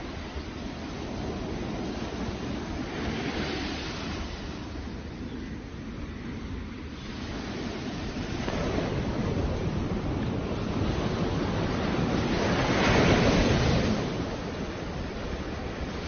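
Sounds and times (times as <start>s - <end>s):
sea waves breaking on sand: 0.0s - 4.9s, 6.9s - 16.0s
wind on microphone: 0.0s - 16.0s.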